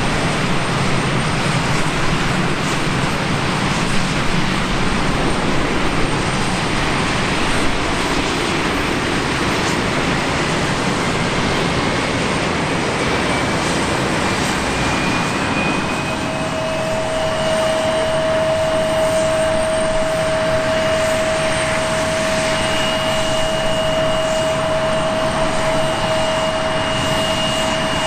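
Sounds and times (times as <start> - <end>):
steady whine: 0.0 - 28.0
turboprop engines running: 0.0 - 28.0.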